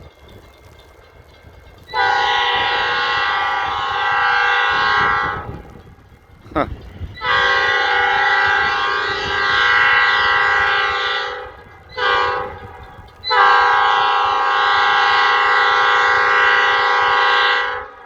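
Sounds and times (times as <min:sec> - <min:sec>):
locomotive air horn blasts: 0:01.9 - 0:05.8, 0:07.2 - 0:18.0.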